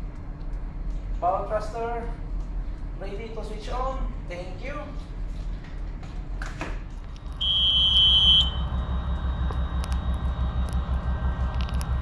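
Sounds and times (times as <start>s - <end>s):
low pulsing machinery hum: 0.0s - 12.0s.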